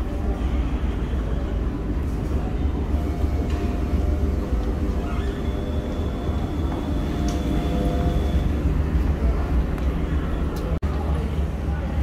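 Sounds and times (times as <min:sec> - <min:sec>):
faint whining tones: 0:00.2 - 0:10.8.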